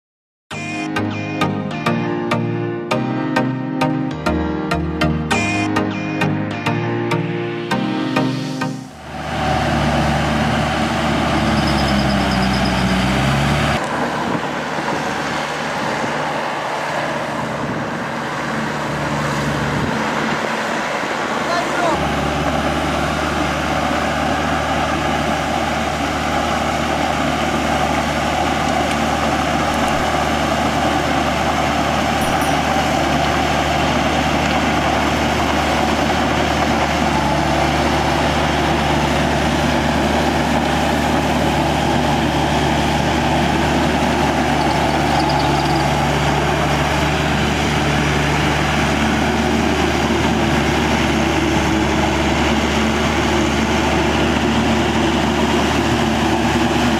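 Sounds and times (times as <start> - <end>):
tractor diesel engine running: 8.8 - 56.9.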